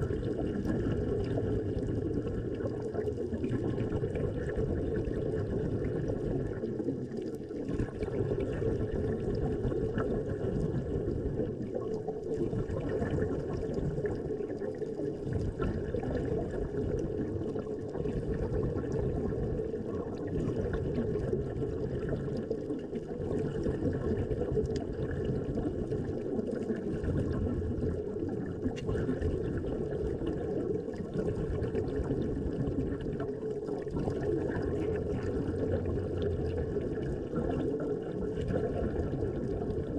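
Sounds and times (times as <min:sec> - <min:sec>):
muffled rush of water: 0:00.0 - 0:39.9.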